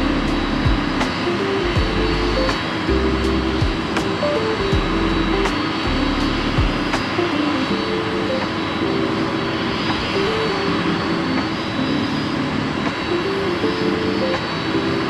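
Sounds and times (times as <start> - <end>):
faint high whine: 0.0 - 15.0
jet engines running: 0.0 - 15.0.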